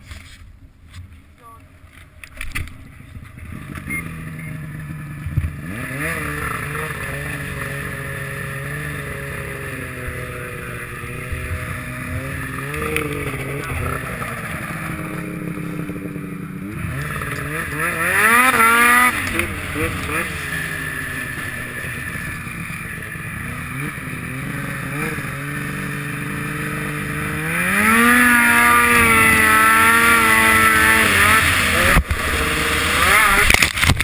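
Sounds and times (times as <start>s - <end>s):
snowmobile engine revving: 3.4s - 34.0s.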